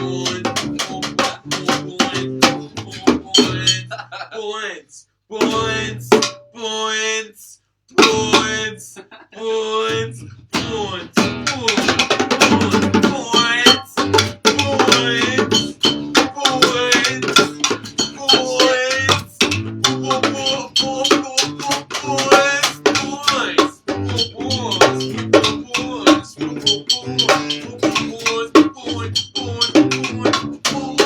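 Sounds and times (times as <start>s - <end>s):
band playing guitar and drums: 0.0s - 4.0s, 5.4s - 6.4s, 8.0s - 8.8s, 10.0s - 31.0s
steady drum beat: 0.0s - 4.1s, 5.4s - 6.4s, 8.0s - 8.7s, 10.6s - 31.0s.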